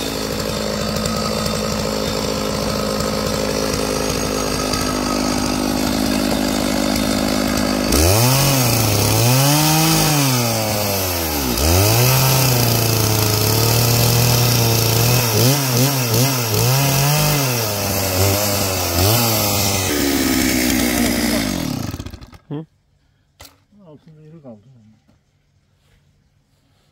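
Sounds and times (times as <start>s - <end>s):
chainsaw revving: 0.0s - 22.5s.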